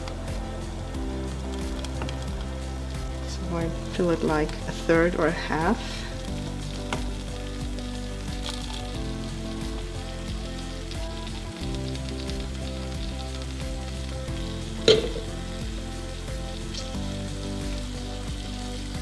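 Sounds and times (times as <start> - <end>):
food sizzling in a pan: 0.0 - 19.0
soft background music: 0.0 - 19.0.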